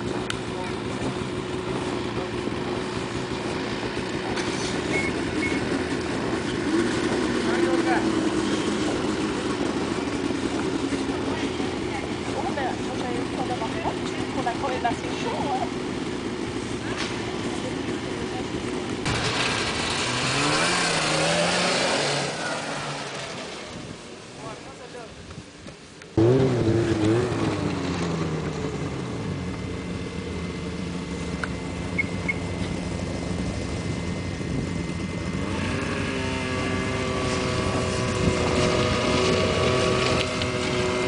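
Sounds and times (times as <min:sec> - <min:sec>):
snowmobile engines idling: 0:00.0 - 0:41.0.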